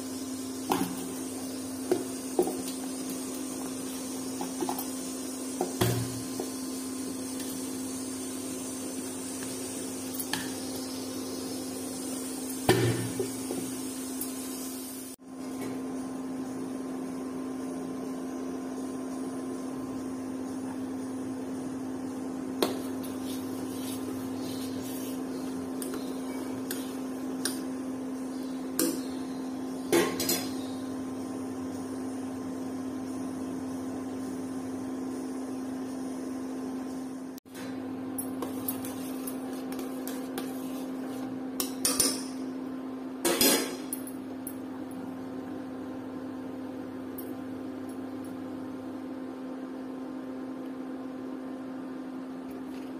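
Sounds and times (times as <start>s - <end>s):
induction cooktop humming: 0.0s - 52.9s.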